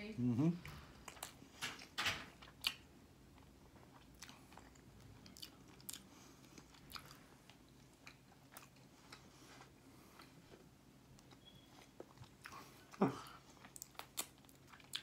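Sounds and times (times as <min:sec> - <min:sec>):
man chewing wet mouth clicks: 0:01.0 - 0:09.3, 0:11.2 - 0:15.0.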